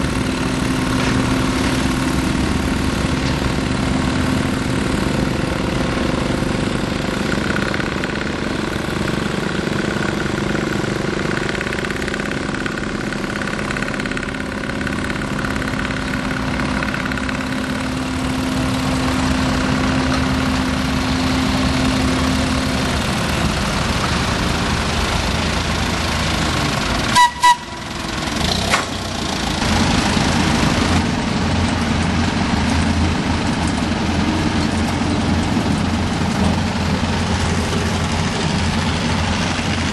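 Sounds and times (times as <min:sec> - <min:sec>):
locomotive engine running: 0:00.0 - 0:39.9.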